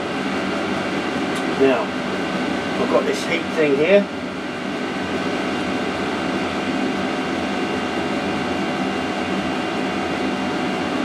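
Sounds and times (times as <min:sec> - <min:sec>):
heater fan whirring rush of air: 0:00.0 - 0:11.0.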